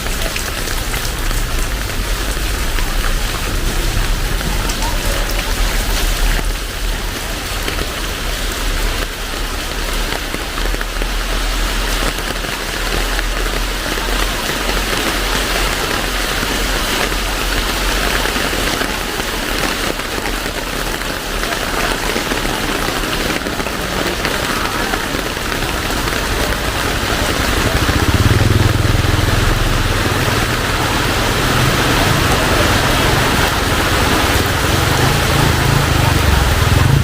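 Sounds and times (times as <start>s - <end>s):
heavy rain falling: 0.0s - 37.0s
vehicle engine rumble: 0.0s - 37.0s.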